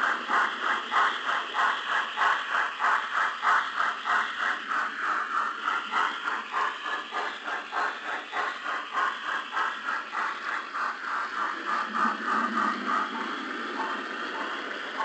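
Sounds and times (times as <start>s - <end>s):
locomotive rhythmic beat: 0.0s - 15.0s.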